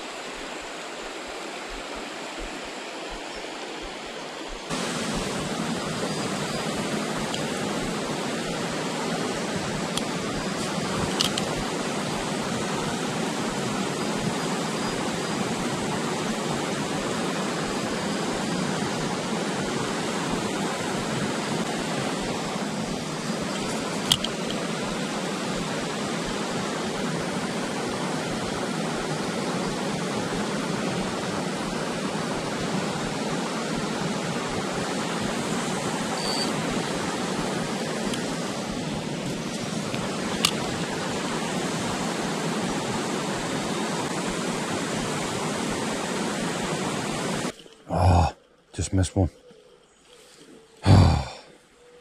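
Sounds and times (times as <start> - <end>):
flowing river water: 0.0 - 48.3.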